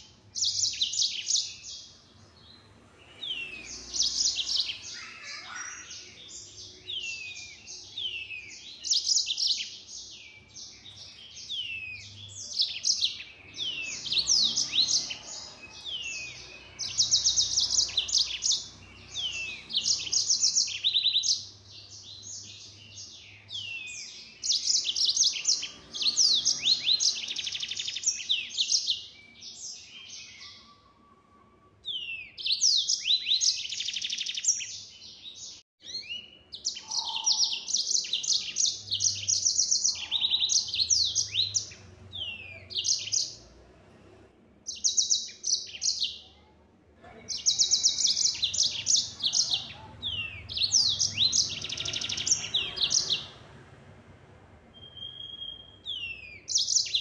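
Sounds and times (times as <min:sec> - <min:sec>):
canary singing trills: 0:00.0 - 0:46.5, 0:47.1 - 0:53.6, 0:54.7 - 0:57.0.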